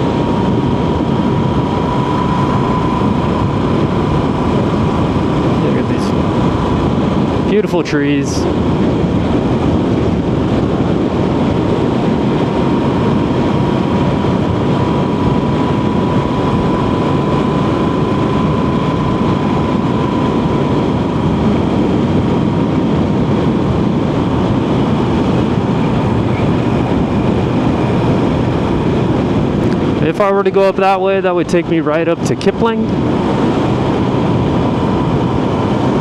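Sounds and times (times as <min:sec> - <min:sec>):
faint steady whine: 0:00.0 - 0:36.0
motorcycle engine and road noise: 0:00.0 - 0:36.0.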